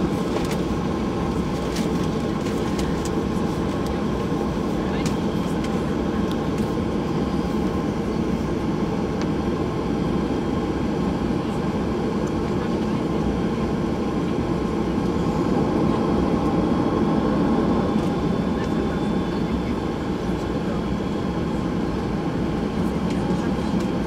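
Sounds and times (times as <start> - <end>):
jet engines low rumble: 0.0 - 24.0.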